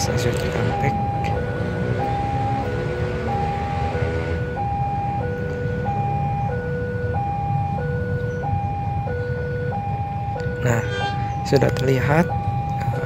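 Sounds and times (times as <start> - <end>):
level crossing two-tone alarm: 0.6 - 13.0.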